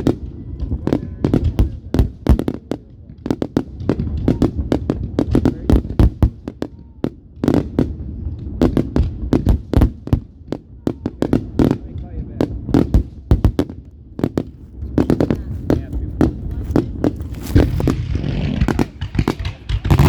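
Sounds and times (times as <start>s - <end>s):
fireworks bangs and pops: 0.0s - 20.0s.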